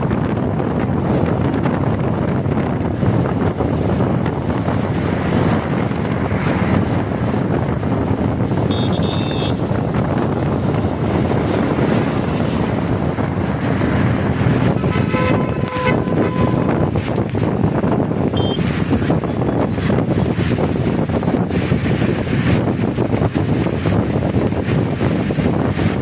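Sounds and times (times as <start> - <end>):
heavy rain: 0.0 - 26.0
road traffic: 0.0 - 26.0
wind buffeting microphone: 0.0 - 26.0.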